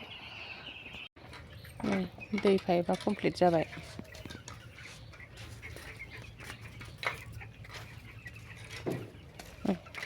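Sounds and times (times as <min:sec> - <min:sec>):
chickens calling: 0:00.0 - 0:10.0.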